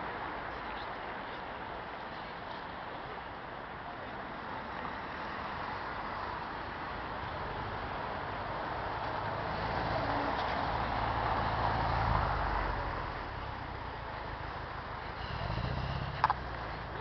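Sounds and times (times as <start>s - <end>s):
city traffic hum: 0.0s - 17.0s.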